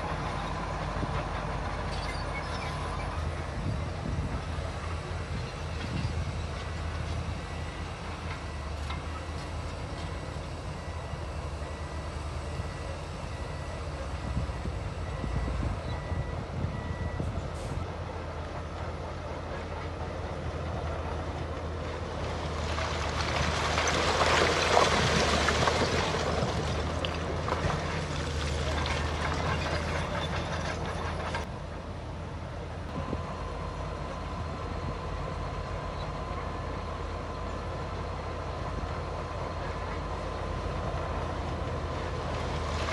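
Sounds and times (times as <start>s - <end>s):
bulldozer diesel engine droning: 0.0s - 42.9s.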